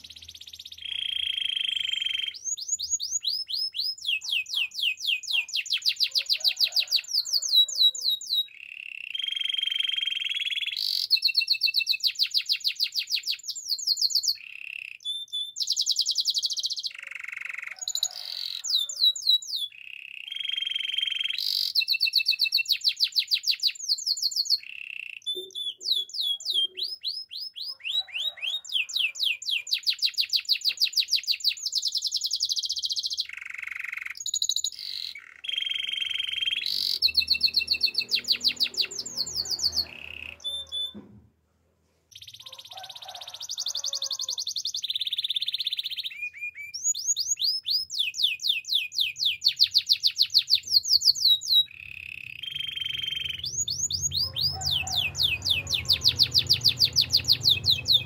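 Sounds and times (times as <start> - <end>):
canary singing trills: 0.0 - 41.0, 42.1 - 58.0.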